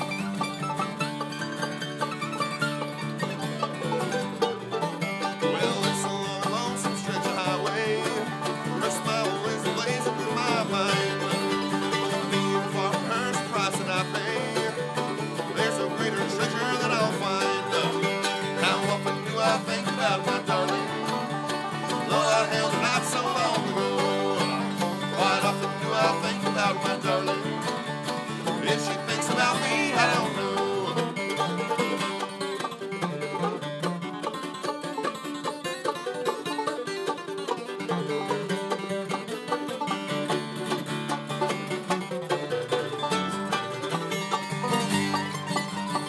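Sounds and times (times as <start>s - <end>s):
acoustic guitar strumming: 0.0s - 46.0s
banjo rolls: 0.0s - 46.0s
mandolin playing: 0.0s - 46.0s.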